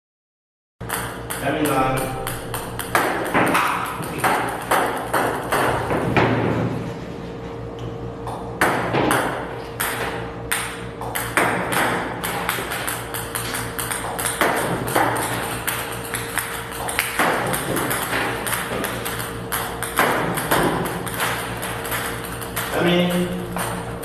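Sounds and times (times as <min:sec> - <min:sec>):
ping-pong balls clicking: 0:00.8 - 0:06.2, 0:08.3 - 0:24.0.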